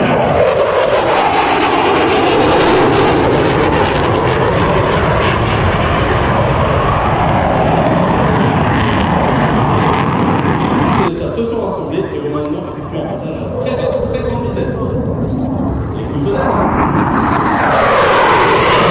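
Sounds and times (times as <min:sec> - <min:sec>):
jet engine rumble and hiss: 0:00.0 - 0:18.9.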